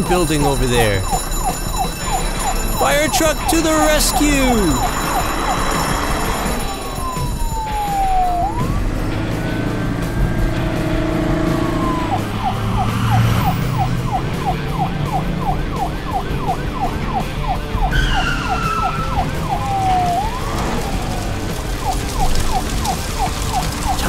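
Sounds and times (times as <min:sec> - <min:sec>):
fire truck siren wail and yelp: 0:00.0 - 0:24.0.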